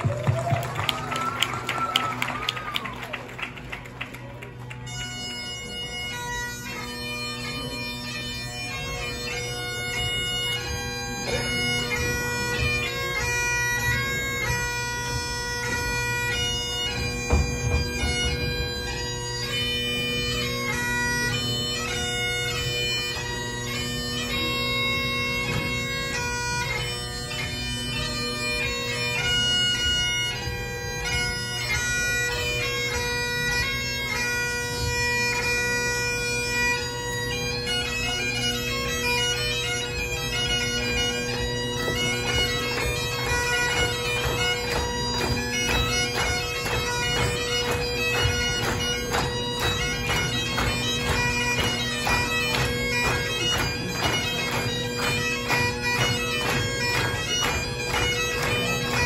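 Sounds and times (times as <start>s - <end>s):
bagpipe playing a fast tune: 0.0s - 59.0s.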